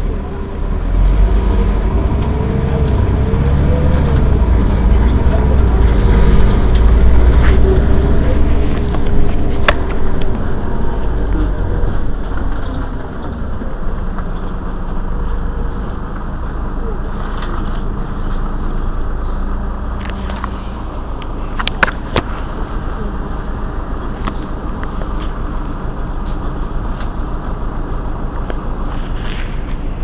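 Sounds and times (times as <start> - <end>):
bus engine idling: 0.0 - 30.0.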